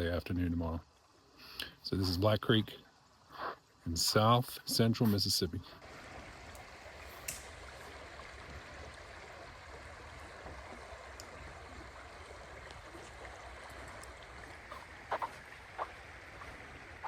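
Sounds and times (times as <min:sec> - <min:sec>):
creek water flowing: 0:00.0 - 0:17.0.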